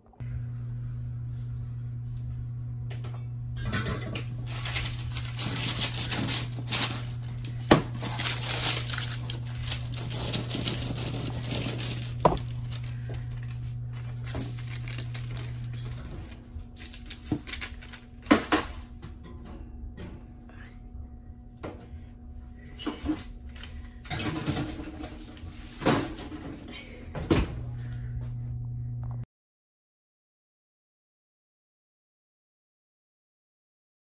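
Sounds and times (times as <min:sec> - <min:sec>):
low hum: 0:00.0 - 0:29.3.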